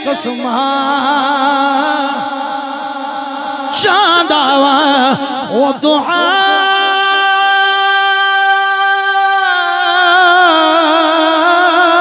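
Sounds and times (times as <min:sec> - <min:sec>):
man singing devotional verse: 0:00.0 - 0:12.0.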